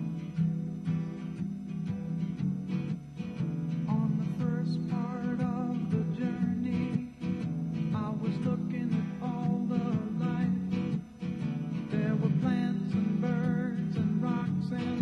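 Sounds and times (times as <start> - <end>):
guitar-led song: 0.0 - 15.0.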